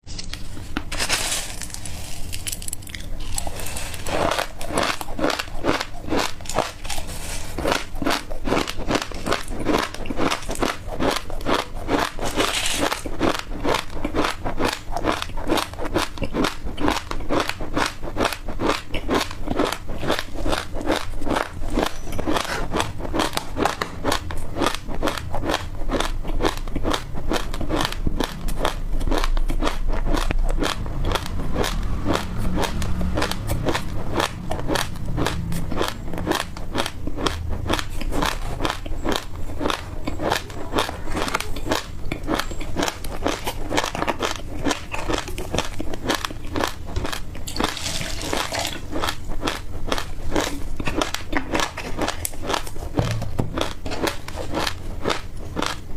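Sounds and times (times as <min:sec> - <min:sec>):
chewing crunchy seeds: 0:00.1 - 0:55.9.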